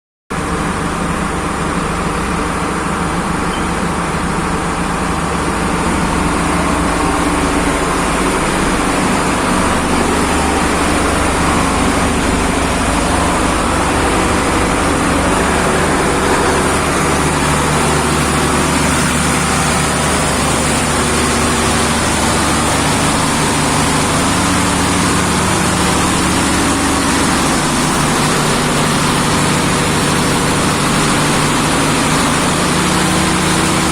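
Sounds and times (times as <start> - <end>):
pump engine droning: 0.4 - 33.9.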